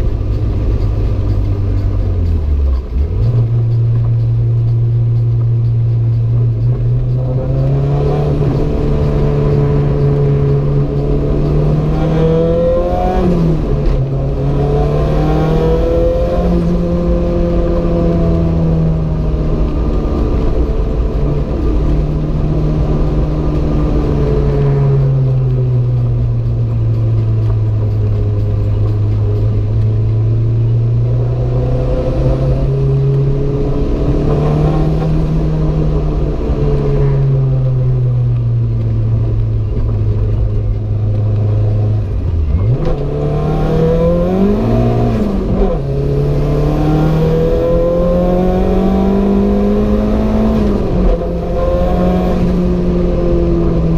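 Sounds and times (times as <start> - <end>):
turbocharged car engine revving: 0.0 - 53.9.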